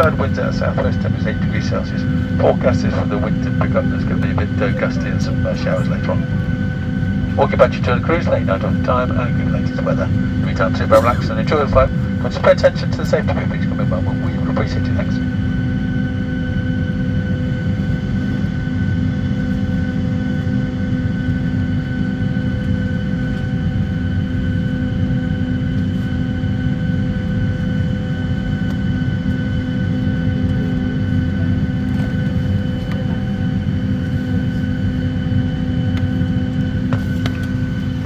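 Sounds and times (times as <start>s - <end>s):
aircraft cabin air-conditioning hum: 0.0s - 38.0s.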